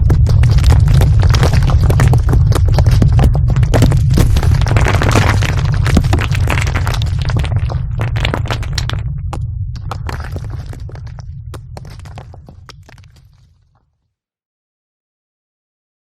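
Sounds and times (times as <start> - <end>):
explosion rumble with crackling: 0.0 - 13.8.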